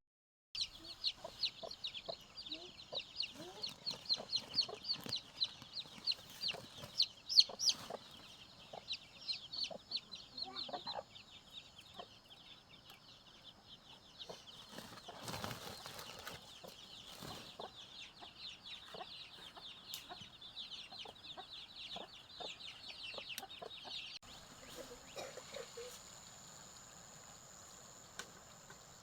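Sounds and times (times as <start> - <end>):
birds chirping: 0.6 - 29.0.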